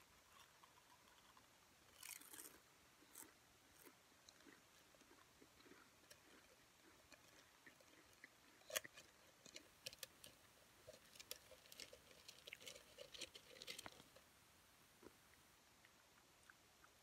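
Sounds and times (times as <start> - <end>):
potato chips crunching: 0.3 - 14.2.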